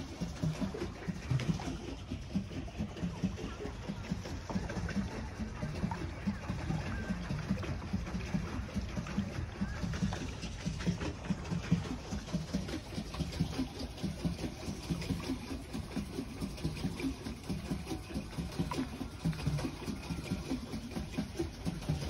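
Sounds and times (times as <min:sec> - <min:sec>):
water sloshing around boat: 0:00.0 - 0:22.0.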